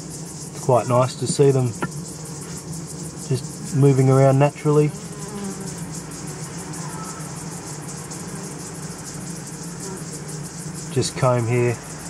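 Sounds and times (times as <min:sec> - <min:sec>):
bees humming: 0:00.0 - 0:12.0
high-pitched insect chorus: 0:00.0 - 0:12.0.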